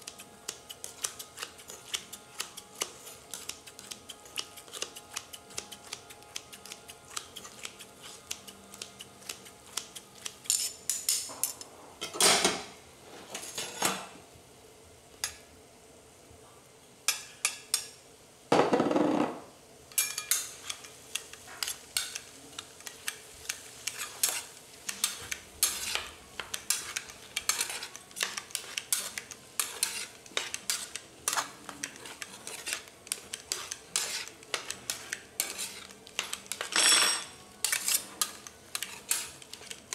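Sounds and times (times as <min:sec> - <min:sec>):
metal spatulas scraping on griddle: 0:00.0 - 0:12.2, 0:13.2 - 0:14.0, 0:20.0 - 0:39.9.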